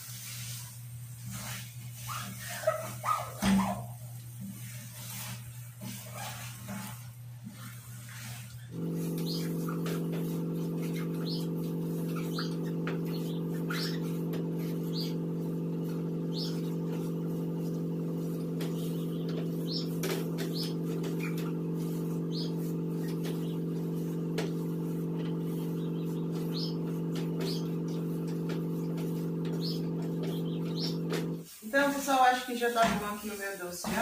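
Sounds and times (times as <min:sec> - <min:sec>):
wooden spoon stirring thick paste: 0:04.3 - 0:34.0.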